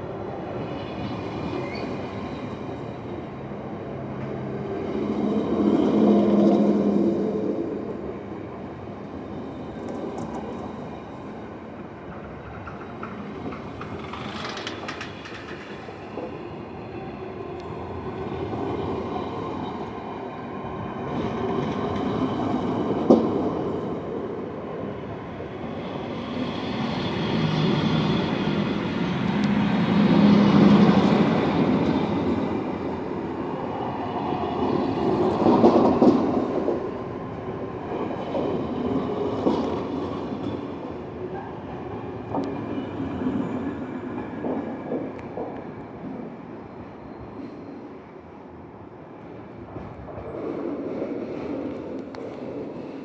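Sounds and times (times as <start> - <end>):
train carriages rolling past: 0.1 - 48.3.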